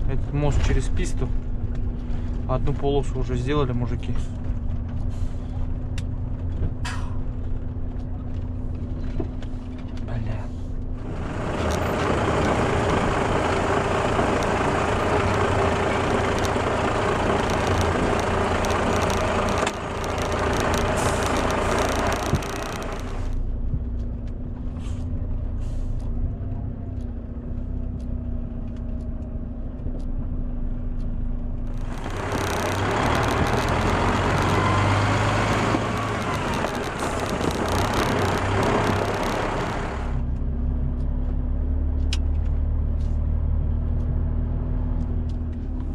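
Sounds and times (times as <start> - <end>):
tyre and body road noise: 0.0 - 45.9
vehicle engine running: 0.0 - 45.9.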